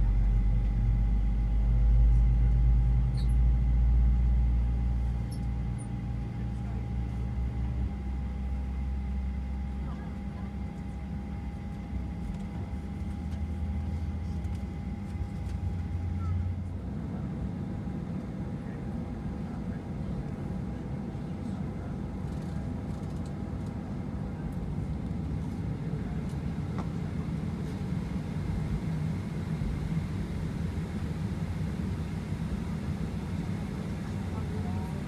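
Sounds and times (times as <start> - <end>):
jet engine cabin rumble: 0.0 - 35.0.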